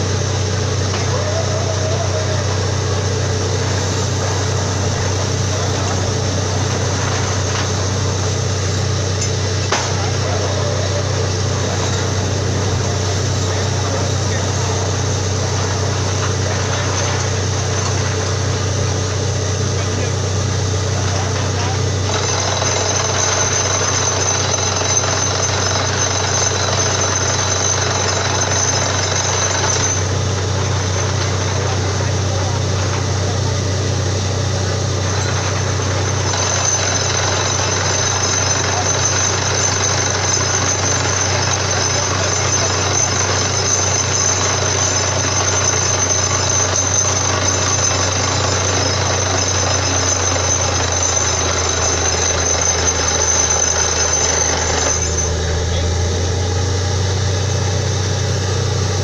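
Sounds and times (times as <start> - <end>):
drilling rig engine drone: 0.0 - 59.0.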